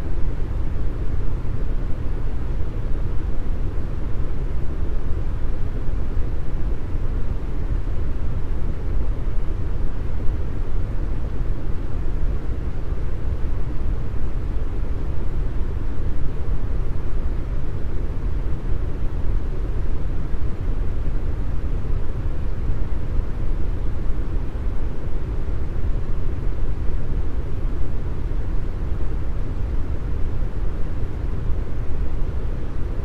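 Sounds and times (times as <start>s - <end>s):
deep brown noise hiss: 0.0s - 33.0s.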